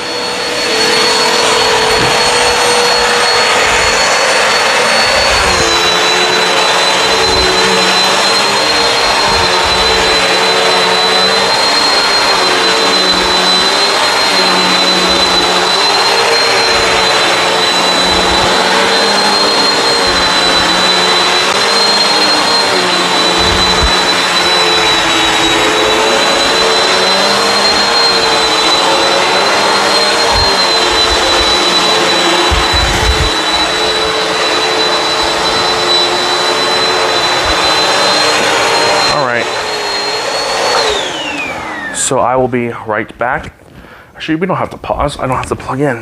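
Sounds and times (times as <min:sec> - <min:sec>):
upright vacuum running: 0:00.0 - 0:42.4.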